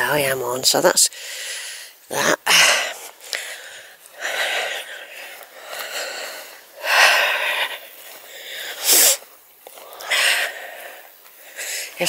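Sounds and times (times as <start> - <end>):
person breathing hard: 1.1 - 12.0.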